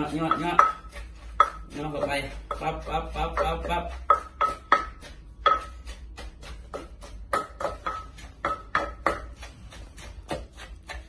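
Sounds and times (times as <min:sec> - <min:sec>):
wooden pestle pounding in mortar: 0:00.0 - 0:11.0.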